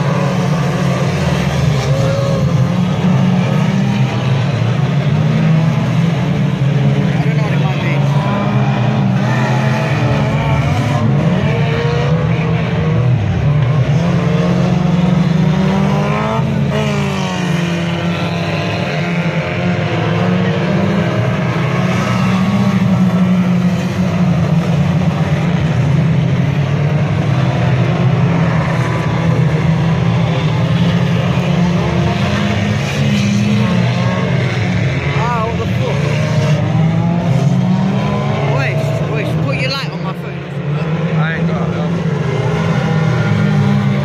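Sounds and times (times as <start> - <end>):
racing car engines: 0.0 - 44.0.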